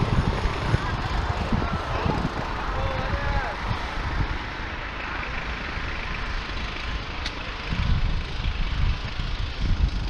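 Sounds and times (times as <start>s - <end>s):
wind rumbling on microphone: 0.0s - 5.0s, 5.6s - 10.0s
wind hiss: 0.0s - 10.0s.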